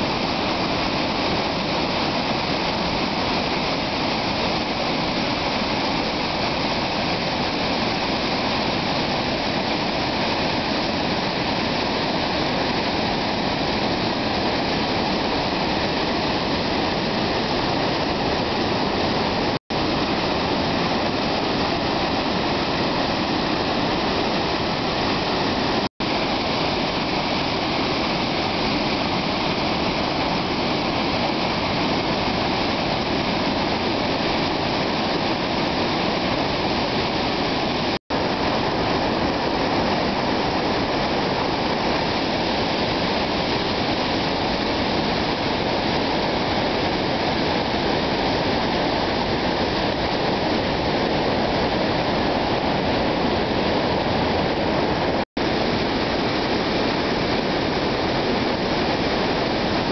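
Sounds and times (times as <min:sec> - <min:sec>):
floodwater rushing from dam: 0:00.0 - 0:59.9.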